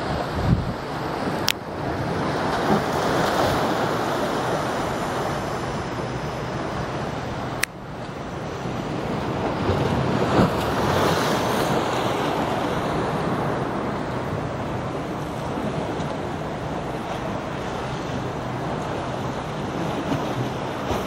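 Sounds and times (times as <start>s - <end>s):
sea waves washing against concrete: 0.0s - 21.0s
wind on microphone: 0.0s - 21.0s.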